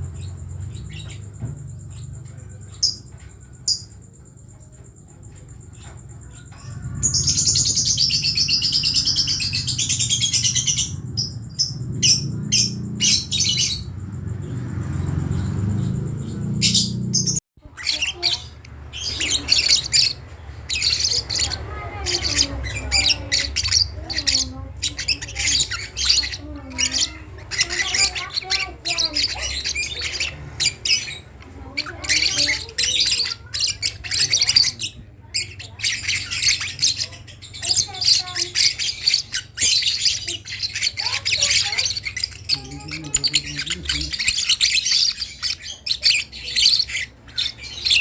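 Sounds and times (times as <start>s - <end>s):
lovebird chirping and chattering: 0.0s - 48.0s.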